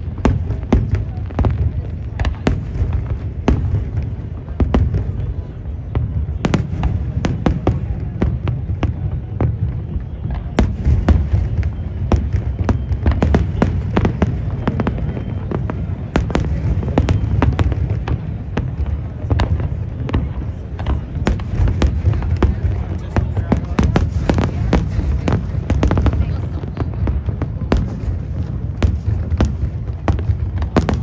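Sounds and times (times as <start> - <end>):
fireworks cracks and bangs: 0.0 - 31.0.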